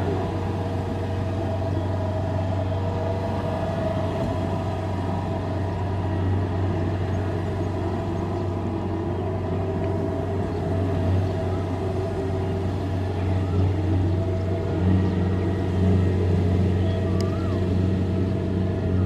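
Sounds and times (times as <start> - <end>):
combine harvester engine drone: 0.0 - 19.0
steady higher hum: 0.0 - 19.0.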